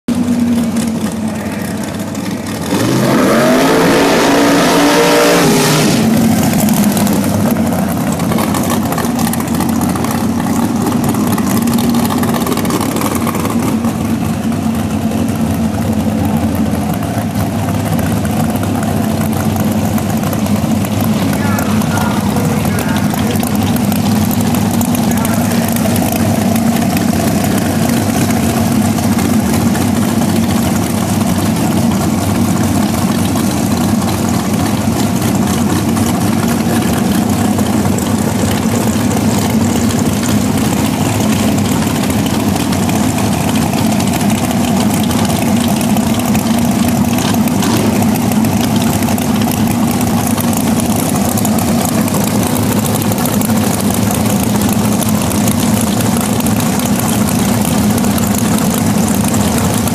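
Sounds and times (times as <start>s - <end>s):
loud engine idling: 0.0s - 59.9s.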